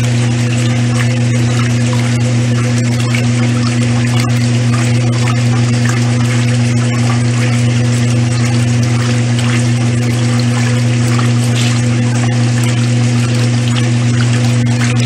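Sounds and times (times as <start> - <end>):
washing machine motor hum: 0.0 - 15.0
water rushing and splashing: 0.0 - 15.0.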